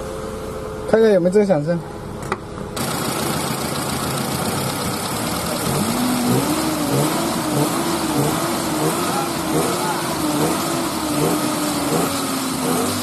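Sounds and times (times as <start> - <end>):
car engine running: 1.8 - 13.0.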